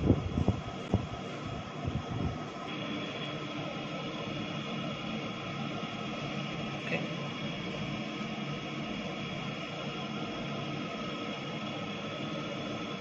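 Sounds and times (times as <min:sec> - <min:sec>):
faint hum tones: 0:00.0 - 0:13.0.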